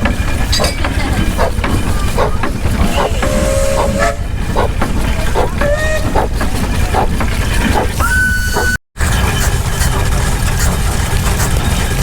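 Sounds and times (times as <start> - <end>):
steam engine puffing and knocking: 0.0 - 12.0.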